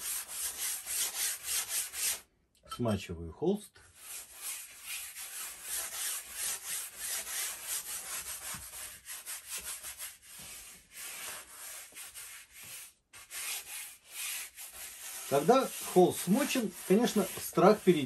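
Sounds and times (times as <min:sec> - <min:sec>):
brush scrubbing on canvas: 0:00.0 - 0:02.2, 0:03.9 - 0:18.0.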